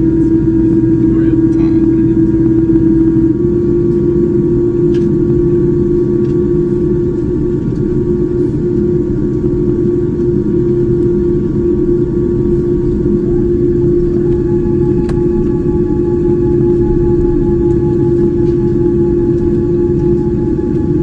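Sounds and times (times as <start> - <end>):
jet engine rumble in cabin: 0.0 - 21.0
steady hum: 0.0 - 21.0.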